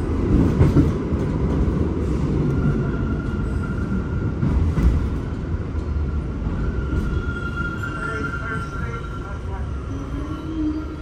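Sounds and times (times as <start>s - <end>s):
subway wheels rumbling on track: 0.0s - 11.0s.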